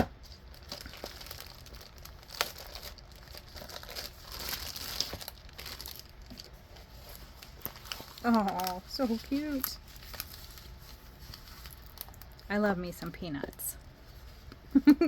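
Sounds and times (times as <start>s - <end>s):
packaging crinkling: 0.1s - 14.6s.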